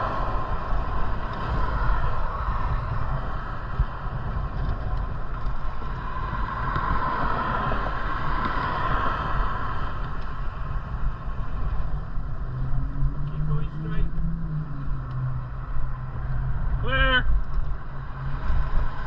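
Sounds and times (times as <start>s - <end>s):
bicycle tyre noise: 0.0s - 19.0s
wind rushing over microphone: 0.0s - 19.0s.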